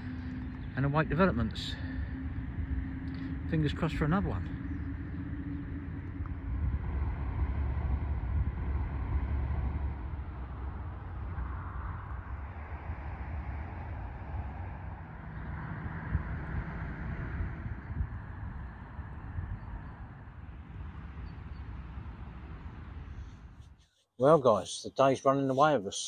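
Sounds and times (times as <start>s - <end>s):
wind buffeting microphone: 0.0s - 23.6s.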